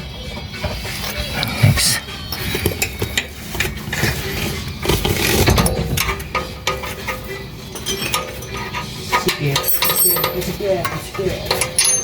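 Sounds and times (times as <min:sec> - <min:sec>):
background music: 0:00.0 - 0:12.0
hand tools clinking on metal: 0:02.3 - 0:12.0.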